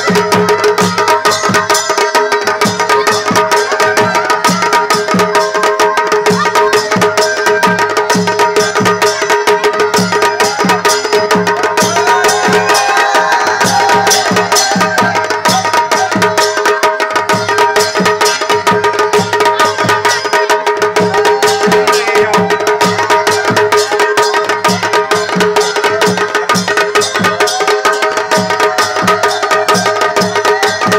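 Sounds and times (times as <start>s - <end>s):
quick drum beat: 0.0s - 30.9s.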